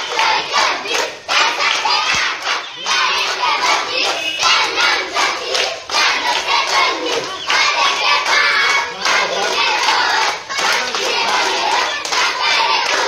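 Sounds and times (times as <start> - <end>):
children chanting and shouting: 0.0 - 13.0
hand clapping: 0.0 - 13.0.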